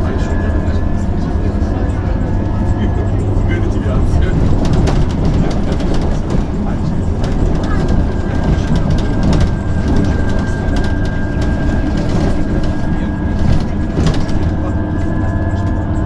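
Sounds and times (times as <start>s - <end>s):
rattles and knocks: 0.0s - 15.6s
road and body rumble: 0.0s - 16.0s.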